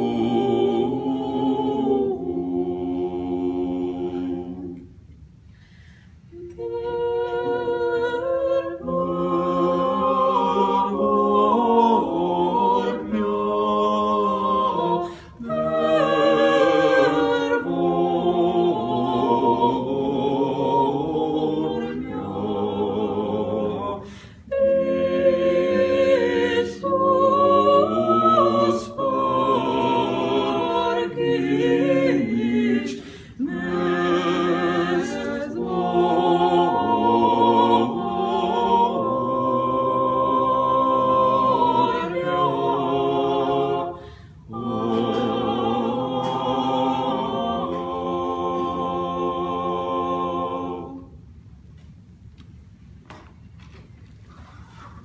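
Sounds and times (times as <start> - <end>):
vocal quartet singing: 0.0 - 51.4.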